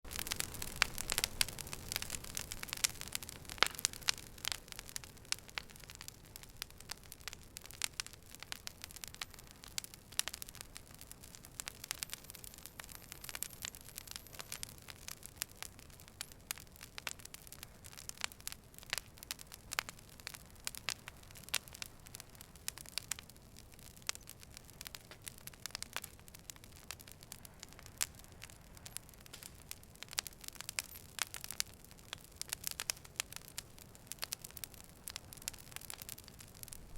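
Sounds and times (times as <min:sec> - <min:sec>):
fire crackling and popping: 0:00.1 - 0:36.9.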